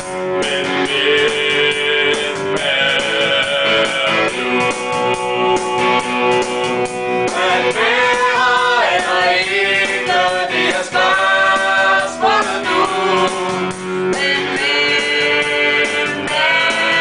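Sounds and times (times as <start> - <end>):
instrumental backing: 0.0 - 17.0
voices singing together: 0.0 - 17.0.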